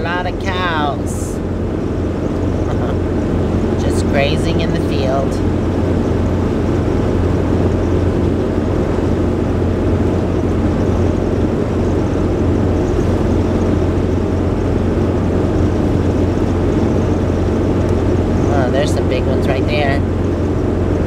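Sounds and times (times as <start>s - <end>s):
engine and road noise rumble: 0.0s - 21.0s.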